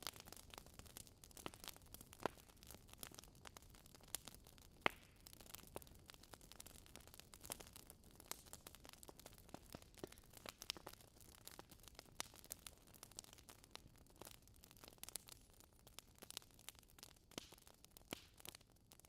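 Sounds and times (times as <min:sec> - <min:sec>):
logs crackling in fireplace: 0:00.0 - 0:19.0.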